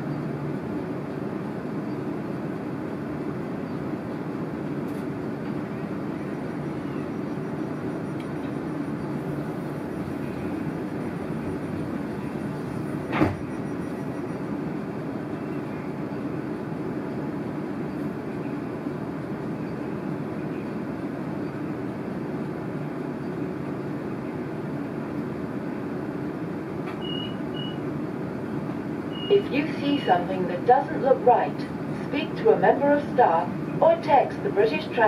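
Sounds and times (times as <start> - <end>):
train carriage hum: 0.0 - 35.0.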